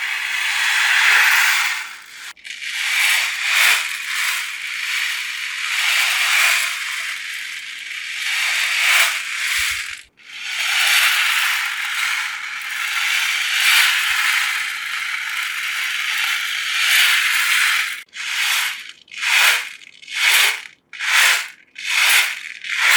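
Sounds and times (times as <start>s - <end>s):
beads rolling in ocean drum: 0.4s - 10.1s, 10.8s - 22.9s.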